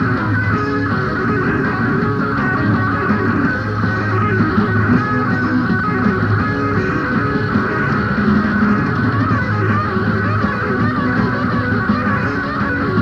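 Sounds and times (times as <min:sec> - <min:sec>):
bass guitar: 0:00.0 - 0:13.0
drums: 0:00.0 - 0:13.0
electric lead guitar: 0:00.0 - 0:13.0
rhythm guitar: 0:00.0 - 0:13.0.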